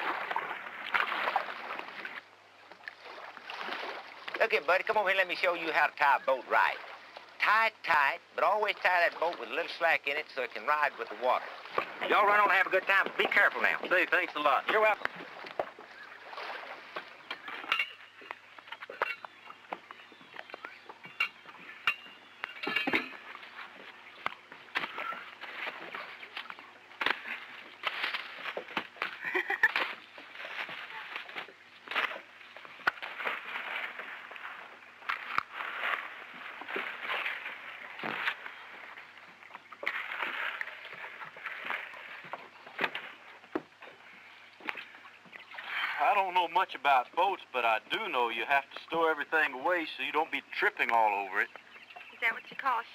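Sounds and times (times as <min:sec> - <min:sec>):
knocks and thumps in a boat: 0:00.0 - 0:48.0.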